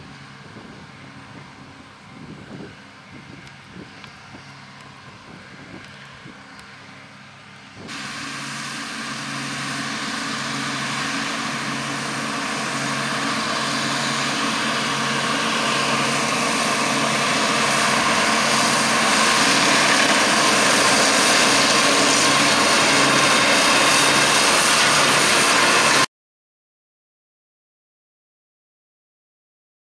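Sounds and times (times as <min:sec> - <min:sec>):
mower topper cutting grass: 0:00.0 - 0:26.1
tractor engine running: 0:00.0 - 0:26.1.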